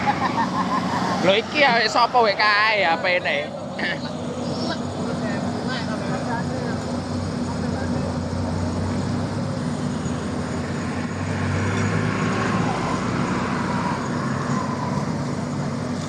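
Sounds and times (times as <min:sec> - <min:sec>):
diesel engine running: 0:00.0 - 0:16.0
passing traffic road noise: 0:00.0 - 0:16.0.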